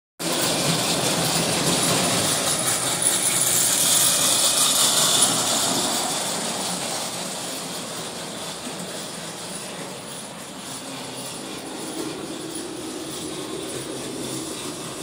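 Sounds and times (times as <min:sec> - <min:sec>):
toy train rumbling on tin rails: 0:00.2 - 0:15.0.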